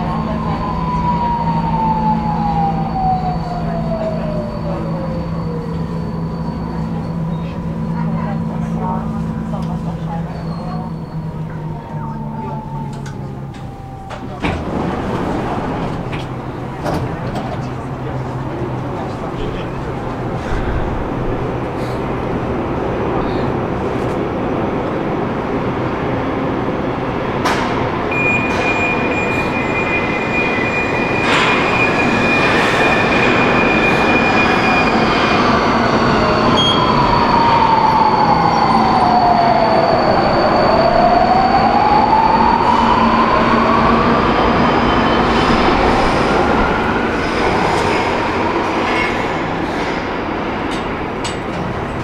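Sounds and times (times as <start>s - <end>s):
metro train rumble: 0.0s - 52.0s.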